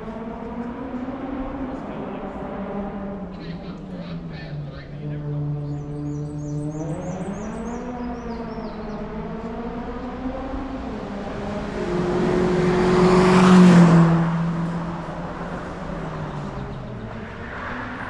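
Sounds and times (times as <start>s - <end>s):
race car engine passing: 0.0s - 18.0s.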